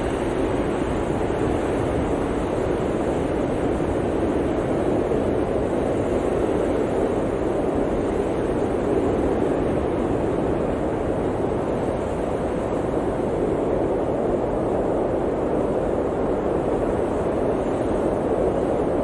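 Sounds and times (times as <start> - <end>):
blizzard wind blowing hard: 0.0 - 19.0.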